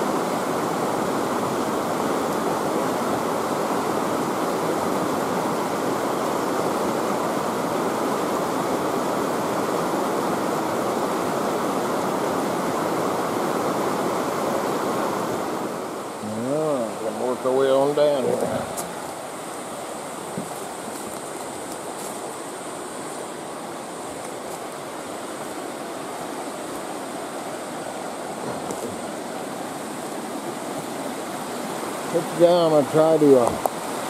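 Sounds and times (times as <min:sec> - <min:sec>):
stream rushing over rocks: 0:00.0 - 0:34.0.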